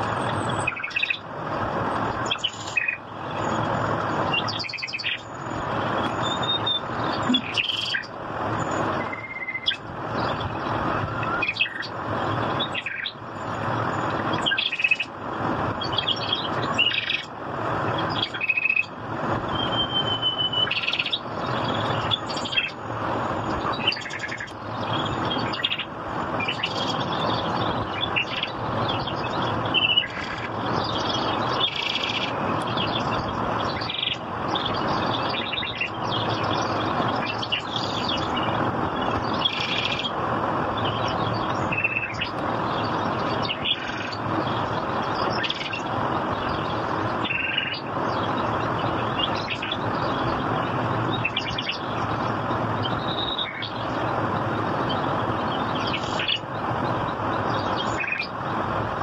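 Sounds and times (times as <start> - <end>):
small birds chirping: 0.0 - 1.2, 1.8 - 59.0
rushing noise: 0.0 - 59.0.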